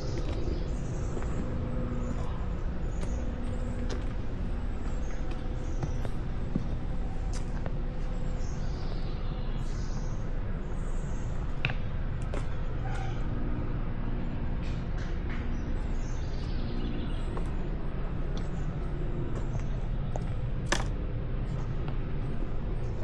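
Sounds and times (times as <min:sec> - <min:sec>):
faint hum: 0:00.0 - 0:23.0
steady low rumble: 0:00.0 - 0:23.0.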